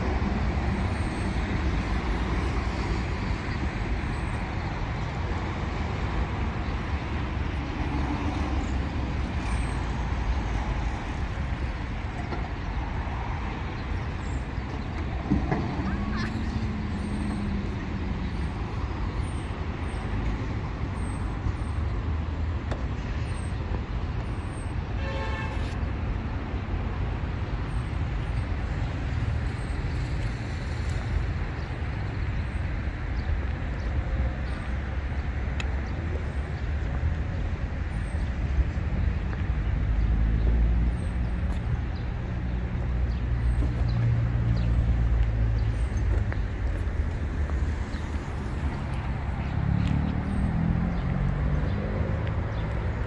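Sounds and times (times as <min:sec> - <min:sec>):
city road traffic rumble: 0:00.0 - 0:53.0.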